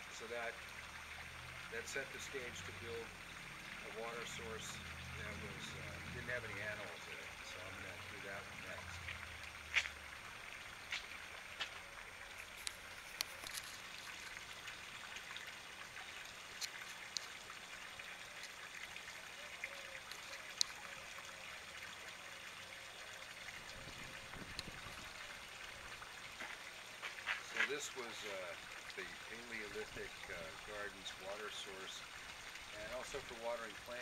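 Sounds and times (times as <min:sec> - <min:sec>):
water trickling from small waterfall: 0:00.0 - 0:34.0.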